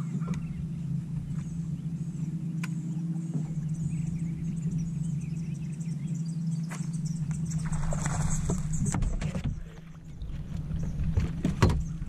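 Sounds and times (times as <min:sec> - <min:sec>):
electric trolling motor humming: 0:00.0 - 0:12.0
small birds chirping: 0:00.0 - 0:12.0.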